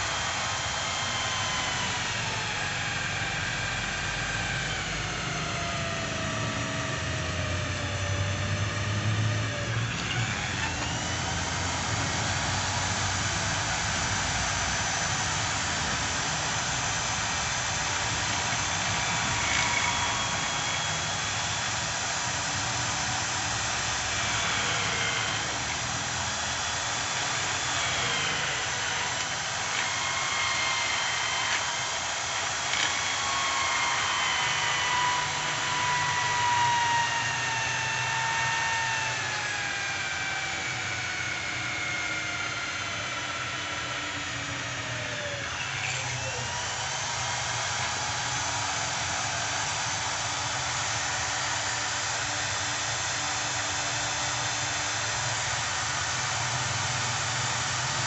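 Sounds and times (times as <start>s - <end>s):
electric drill whining under load: 0.0s - 58.0s.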